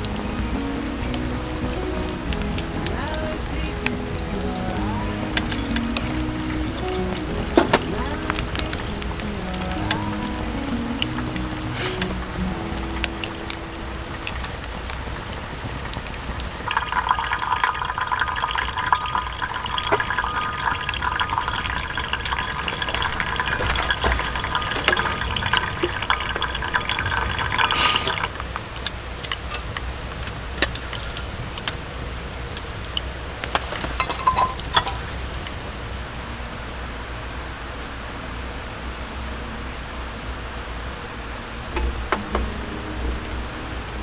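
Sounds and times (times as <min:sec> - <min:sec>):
liquid pouring into container: 0:00.0 - 0:35.9.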